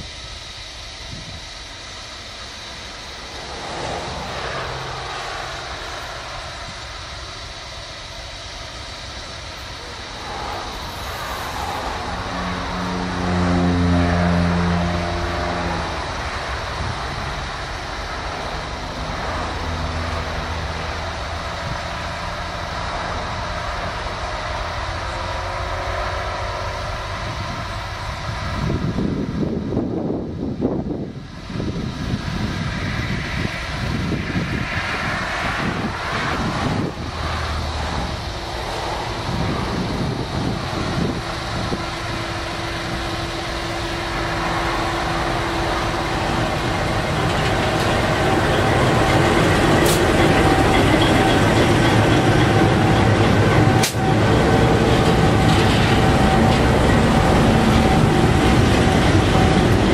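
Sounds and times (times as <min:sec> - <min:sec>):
locomotive engine running: 0:00.0 - 0:59.9
steady whine: 0:00.0 - 0:59.9
train wheels rolling on rail: 0:00.0 - 0:59.9.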